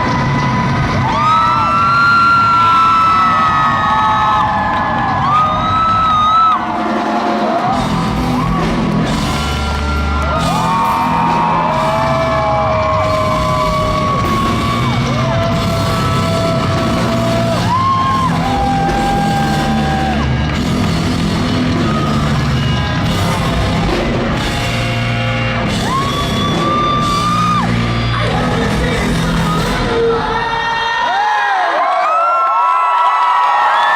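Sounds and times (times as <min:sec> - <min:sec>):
live rock band playing: 0:00.0 - 0:30.5.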